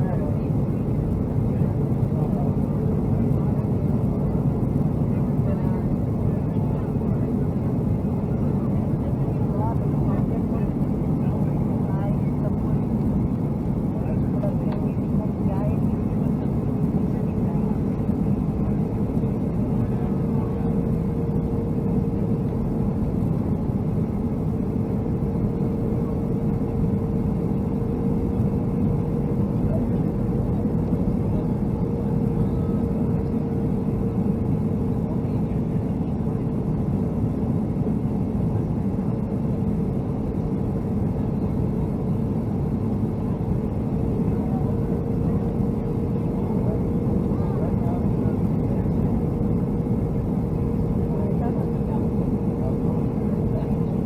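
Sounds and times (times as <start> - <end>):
aircraft engine drone: 0.0 - 54.0
constant hum: 0.0 - 54.0.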